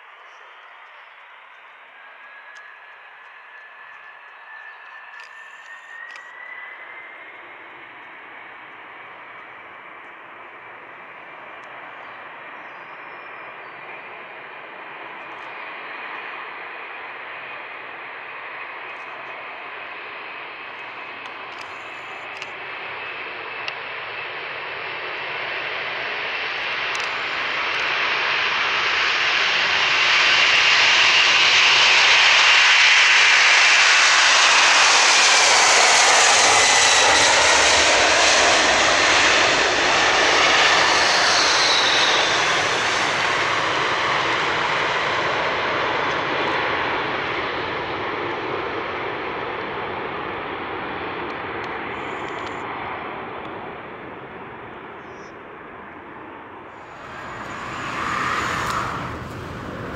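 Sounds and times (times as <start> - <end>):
jet airliner roaring on takeoff: 0.0 - 59.9.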